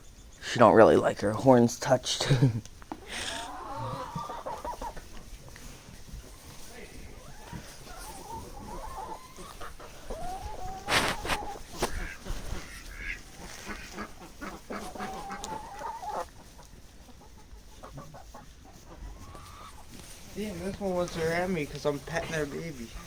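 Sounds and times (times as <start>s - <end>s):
farm animals calling: 0.0s - 23.0s.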